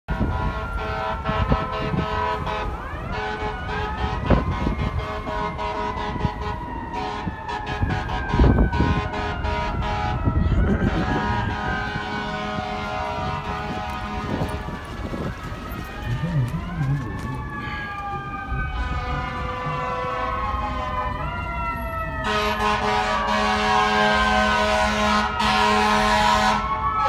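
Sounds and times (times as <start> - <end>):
blaring horn tones: 0.1 - 27.0
emergency siren wailing: 0.1 - 27.0
street traffic: 0.1 - 27.0.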